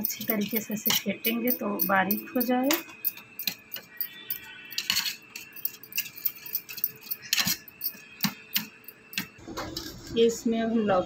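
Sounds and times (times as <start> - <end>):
spoon scraping a metal bowl: 0.0 - 10.2.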